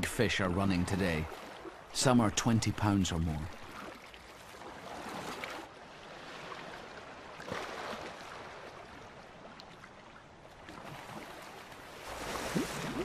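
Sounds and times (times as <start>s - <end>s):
sea water splashing and rushing: 0.0s - 13.0s.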